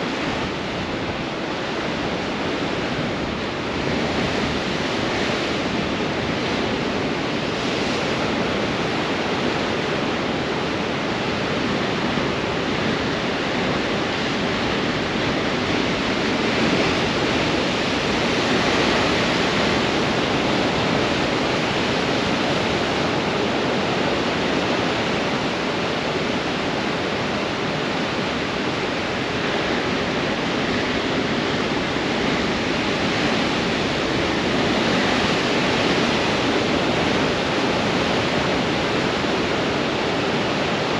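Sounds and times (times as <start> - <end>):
ocean surf breaking on rocks: 0.0 - 40.9
strong wind: 0.0 - 40.9.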